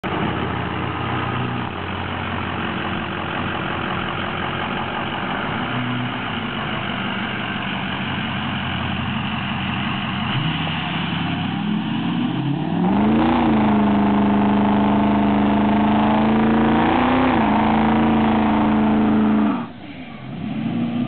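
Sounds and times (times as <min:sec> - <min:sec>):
diesel engine idling and revving: 0:00.0 - 0:21.0.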